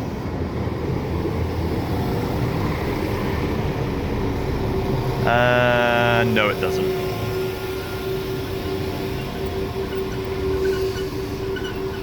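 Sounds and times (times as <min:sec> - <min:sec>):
train engine humming and rumbling: 0:00.0 - 0:12.0.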